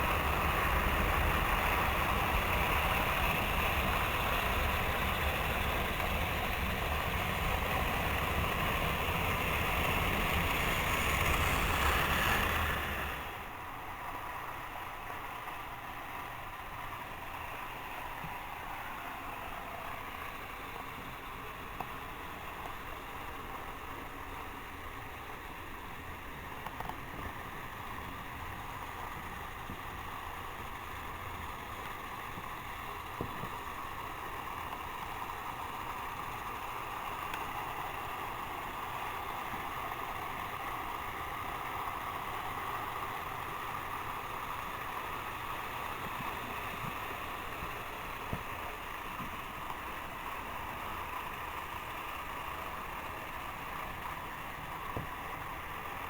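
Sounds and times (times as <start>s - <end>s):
toy trains whirring on track: 0.0s - 56.0s.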